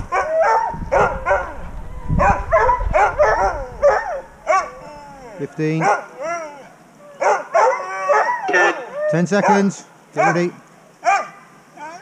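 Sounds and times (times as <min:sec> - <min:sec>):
sled dogs yipping and whining: 0:00.0 - 0:10.4, 0:11.0 - 0:12.0.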